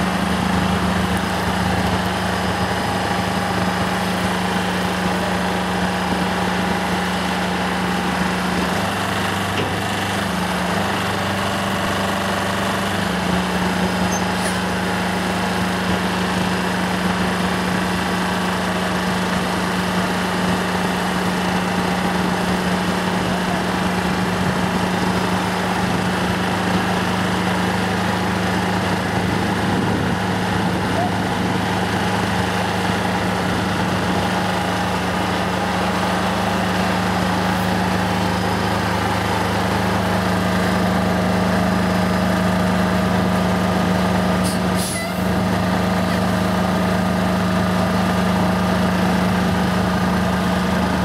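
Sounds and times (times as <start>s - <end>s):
heavy truck engine running: 0.0s - 51.0s.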